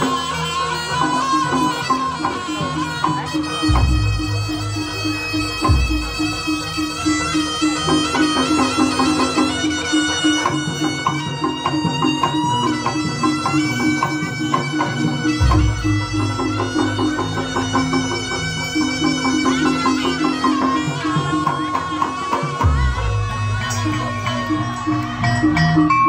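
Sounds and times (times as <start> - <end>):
gamelan pattern: 0.0 - 26.0
reed shawm melody: 0.0 - 26.0
drum strokes: 1.3 - 26.0.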